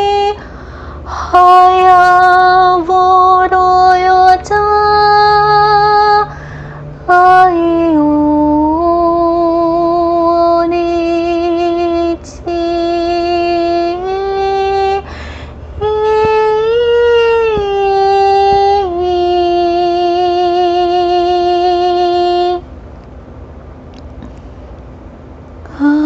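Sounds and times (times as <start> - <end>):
woman singing wordless notes: 0.0 - 22.7, 25.7 - 26.0.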